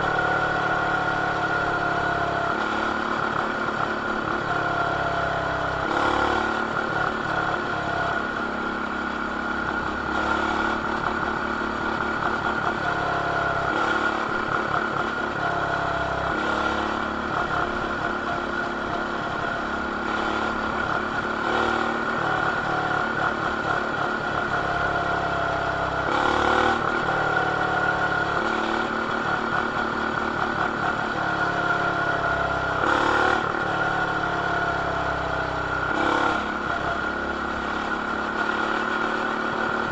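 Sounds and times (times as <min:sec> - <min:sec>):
mini bike engine revving: 0:02.2 - 0:08.3, 0:09.6 - 0:39.9.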